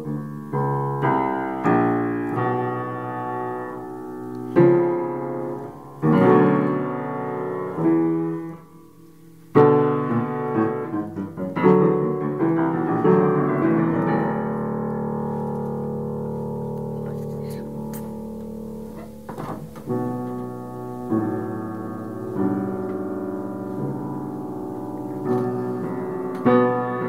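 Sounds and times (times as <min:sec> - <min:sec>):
solo piano playing: 0:00.0 - 0:27.0.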